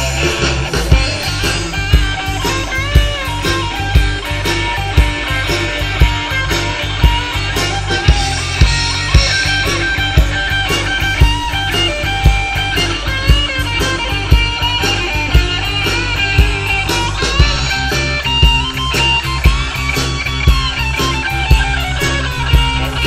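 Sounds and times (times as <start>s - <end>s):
bass guitar: 0.0s - 23.0s
distorted electric guitars: 0.0s - 23.0s
drum beat: 0.0s - 23.0s.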